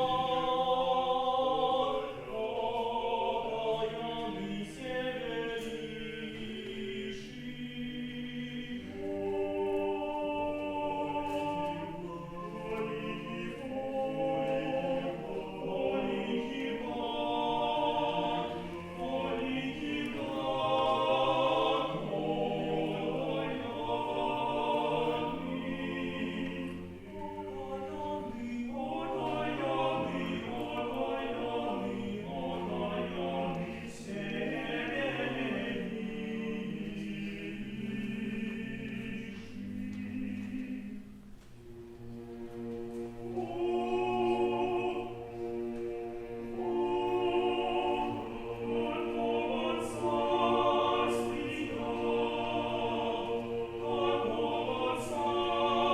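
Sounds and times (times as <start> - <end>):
choir singing held chords: 0.0 - 55.9.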